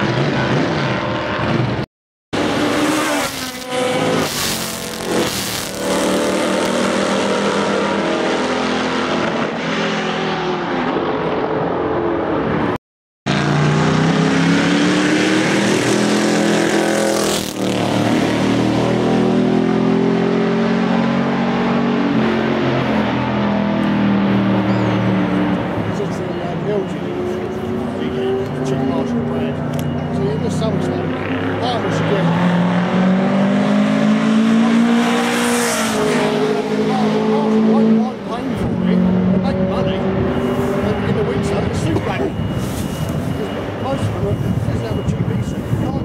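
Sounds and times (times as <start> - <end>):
racing car engines revving: 0.0 - 1.8, 2.4 - 46.0.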